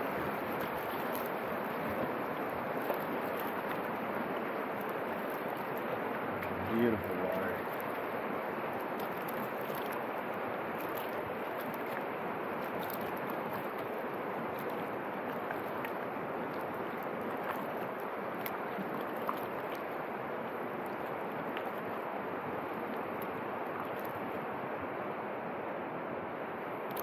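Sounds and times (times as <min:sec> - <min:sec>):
faint paddle splashes: 0:00.0 - 0:24.5
river water rushing: 0:00.0 - 0:27.0.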